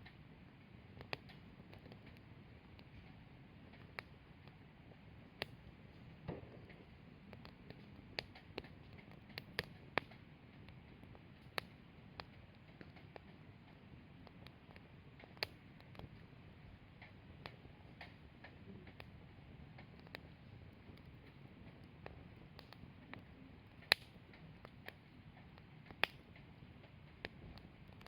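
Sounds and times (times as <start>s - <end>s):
firewood crackling and popping: 0.0s - 28.0s.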